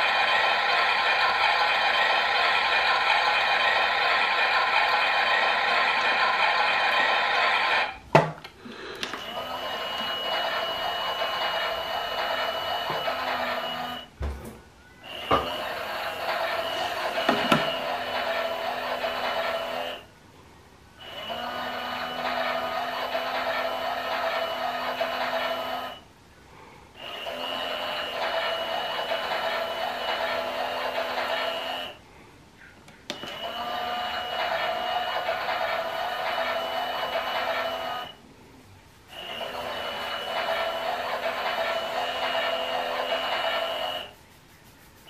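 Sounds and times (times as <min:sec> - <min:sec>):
small electric motor whine: 0:00.0 - 0:08.0, 0:09.1 - 0:14.1, 0:15.0 - 0:20.1, 0:21.0 - 0:26.0, 0:27.0 - 0:32.0, 0:33.1 - 0:38.2, 0:39.1 - 0:44.2.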